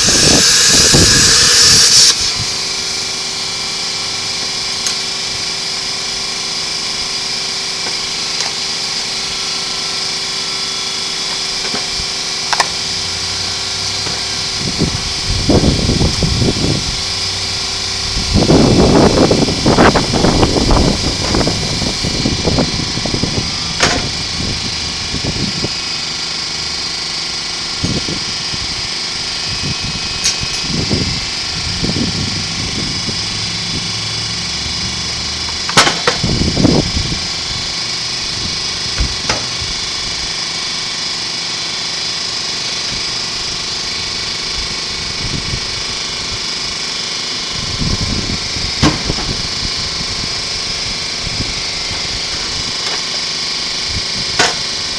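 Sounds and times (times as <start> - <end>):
steady mechanical hum: 0.0 - 54.9.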